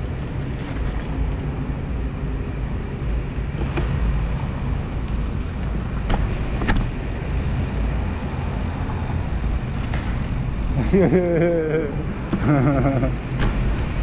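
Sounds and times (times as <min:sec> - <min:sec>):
bike tyres on asphalt: 0:00.0 - 0:14.0.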